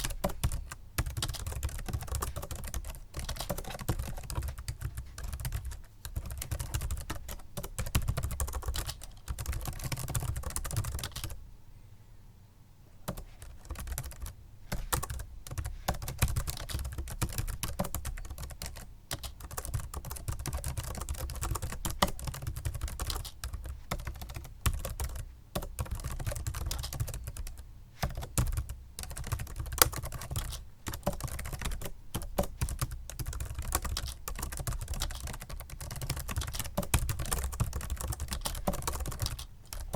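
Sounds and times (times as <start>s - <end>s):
fast typing on keyboard: 0.0s - 11.4s, 13.1s - 39.9s.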